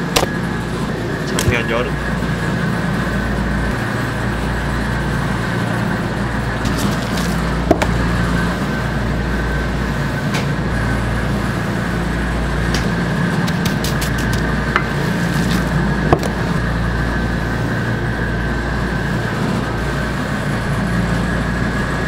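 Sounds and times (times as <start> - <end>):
kitchen machinery rushing hum: 0.0 - 22.0.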